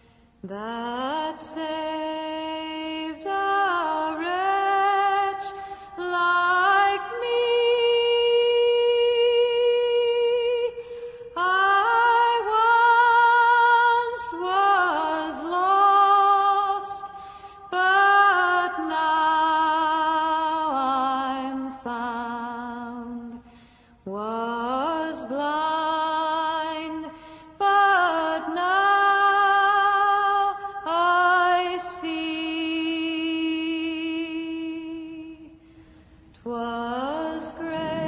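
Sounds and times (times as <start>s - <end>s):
person singing with vibrato: 0.0s - 35.7s, 36.3s - 38.0s.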